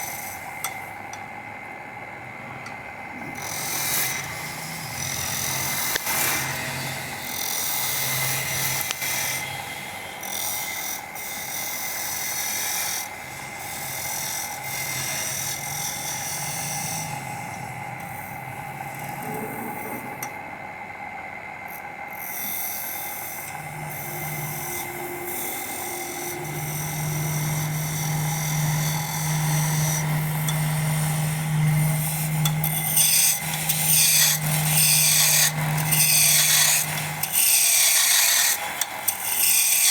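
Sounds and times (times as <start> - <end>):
wood lathe humming: 0.0 - 39.9
tool rasping against spinning wood: 3.2 - 20.3, 22.3 - 39.9.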